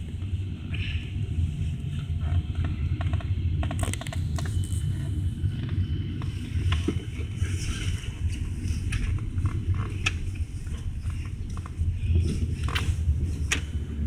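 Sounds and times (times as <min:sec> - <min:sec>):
road and engine rumble in car: 0:00.0 - 0:14.0
small clicks and rattles: 0:01.9 - 0:14.0.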